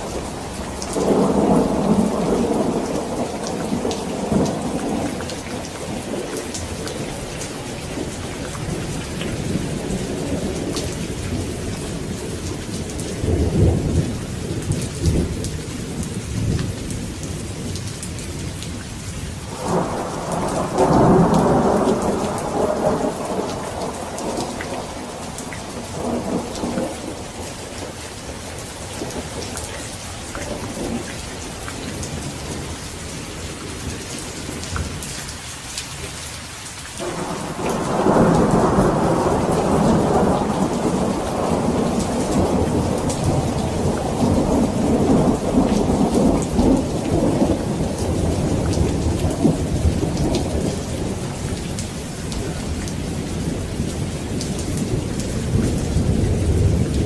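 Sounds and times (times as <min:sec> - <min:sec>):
rolling thunder: 0:00.0 - 0:18.8, 0:19.5 - 0:35.1, 0:37.0 - 0:57.0
steady rain: 0:00.0 - 0:57.0.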